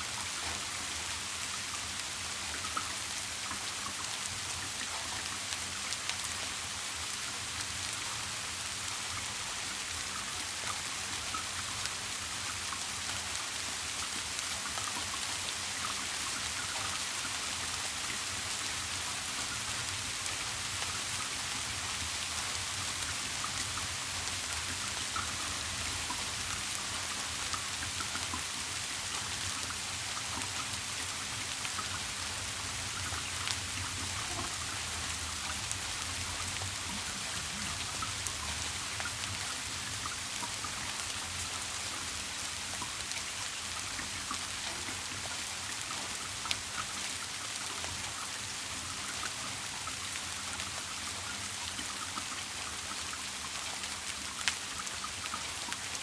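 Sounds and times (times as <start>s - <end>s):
rain drops hitting a surface: 0.0s - 56.0s.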